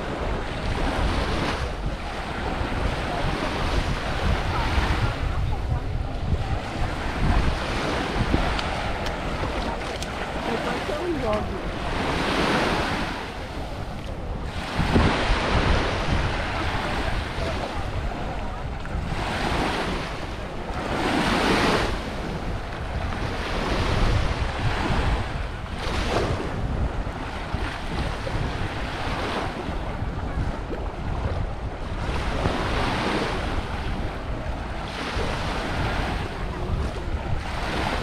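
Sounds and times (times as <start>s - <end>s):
small waves breaking on shore: 0.0s - 38.0s
wind rumbling on microphone: 0.0s - 38.0s.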